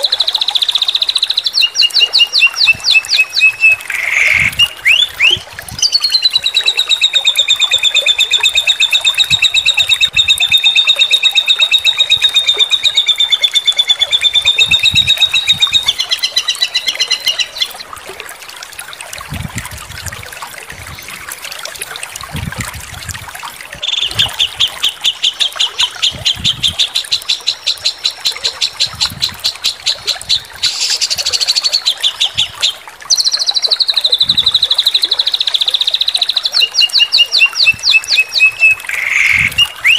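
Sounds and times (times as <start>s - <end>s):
songbird trilling: 0.0s - 17.8s, 23.8s - 39.9s.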